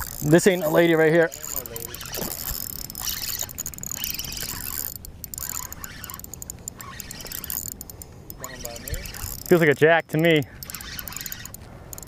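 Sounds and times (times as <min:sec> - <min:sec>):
fishing reel ticking: 0:00.0 - 0:12.0
wind and water hiss: 0:00.0 - 0:12.0.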